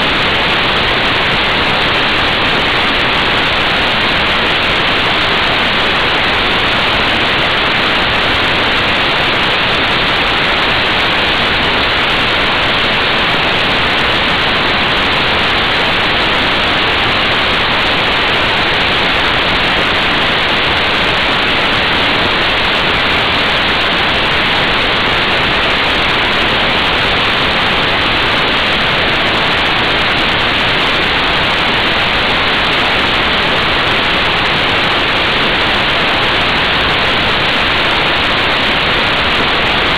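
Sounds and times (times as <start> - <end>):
wind hissing over microphone: 0.0 - 39.9.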